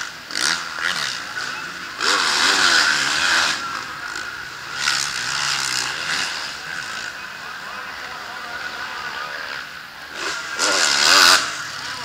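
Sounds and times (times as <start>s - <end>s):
dirt bike revving hard: 0.0s - 12.0s
motorcycle engine drone: 0.0s - 12.0s.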